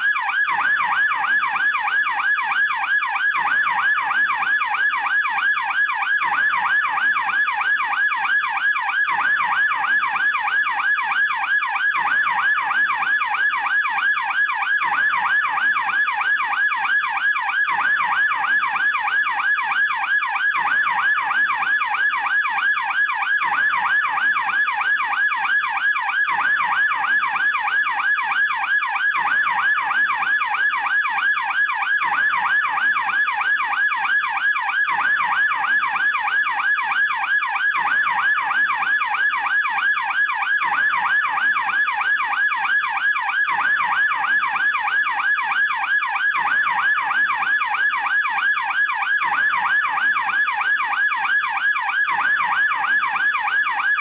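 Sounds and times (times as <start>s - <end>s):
police siren yelping: 0.0s - 54.0s.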